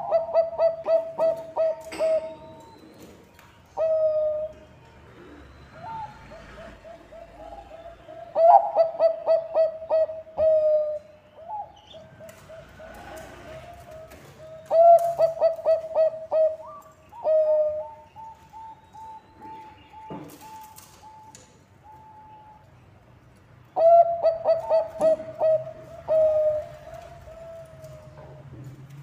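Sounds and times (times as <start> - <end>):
dove cooing: 0.0 - 3.2, 3.8 - 4.6, 5.2 - 21.2, 23.8 - 28.6.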